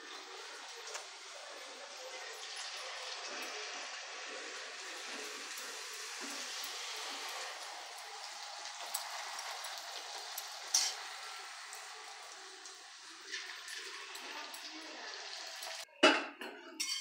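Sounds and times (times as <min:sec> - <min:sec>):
frying in hot oil: 0:00.0 - 0:17.0.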